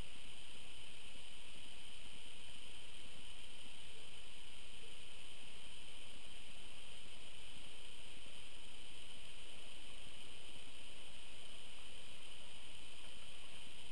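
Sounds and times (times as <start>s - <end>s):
microphone hiss: 0.0s - 13.9s.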